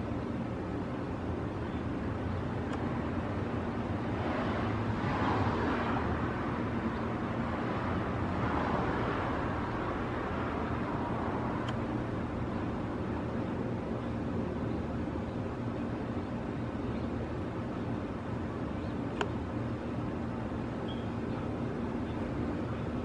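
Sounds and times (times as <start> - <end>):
road traffic noise: 0.0 - 23.0
vehicles passing: 0.0 - 23.0.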